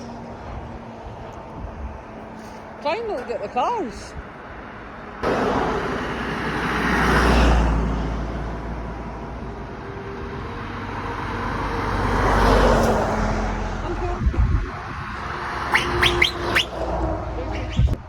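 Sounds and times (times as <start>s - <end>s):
lorries driving past: 0.0s - 18.0s.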